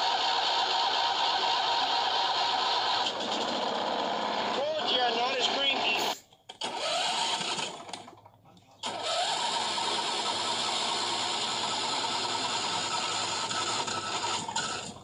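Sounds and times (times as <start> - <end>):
lawn tractor engine running: 0.0 - 15.0
starter cranking engine: 0.0 - 15.0.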